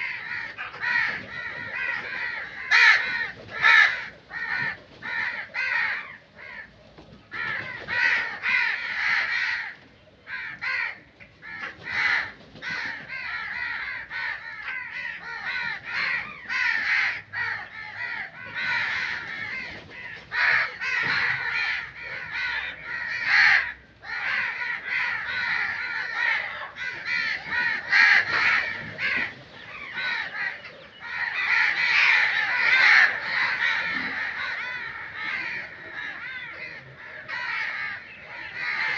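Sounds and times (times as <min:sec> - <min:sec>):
crows cawing: 0:00.0 - 0:38.9.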